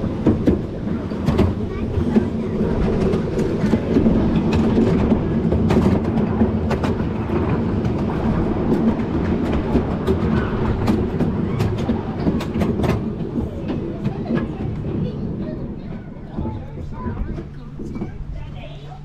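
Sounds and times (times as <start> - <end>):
carriage wheels rumbling: 0.0 - 18.8
wheels clicking over rail joints: 0.0 - 18.8.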